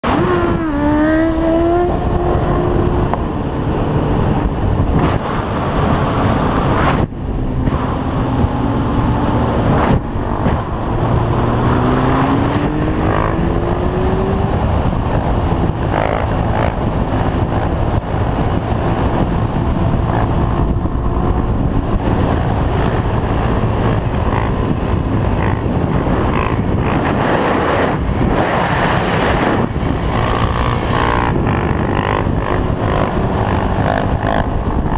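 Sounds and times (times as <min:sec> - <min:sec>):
motorcycle engines revving: 0:00.0 - 0:34.9
wind and road noise: 0:00.0 - 0:34.9.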